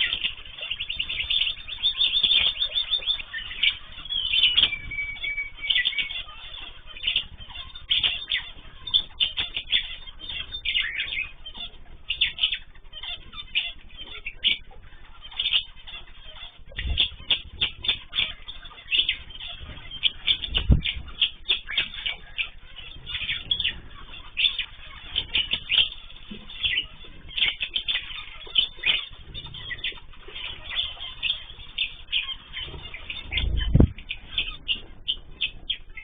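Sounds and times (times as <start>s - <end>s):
small birds chirping: 0.0s - 36.0s
wings fluttering: 0.0s - 36.0s.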